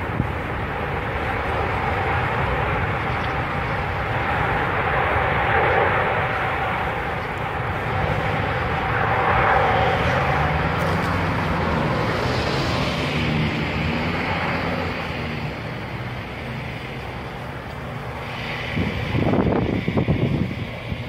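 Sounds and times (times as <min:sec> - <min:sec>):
aircraft engines running: 0:00.0 - 0:21.0.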